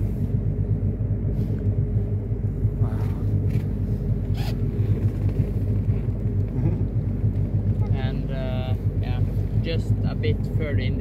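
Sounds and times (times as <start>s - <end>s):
outboard engine running: 0.0s - 11.0s.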